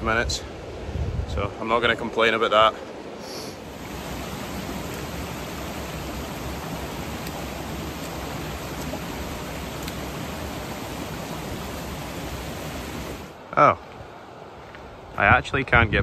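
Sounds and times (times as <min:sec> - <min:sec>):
stream water rushing: 0:01.6 - 0:14.6.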